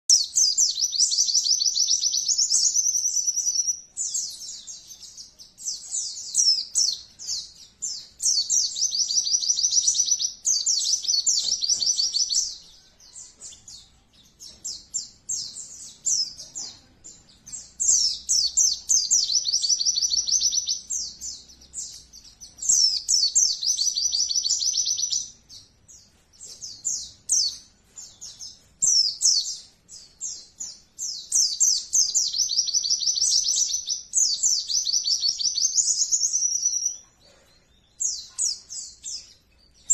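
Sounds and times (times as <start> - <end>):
birds singing rapid high runs: 0.0 - 39.9
scattered bird chirps: 0.1 - 39.9.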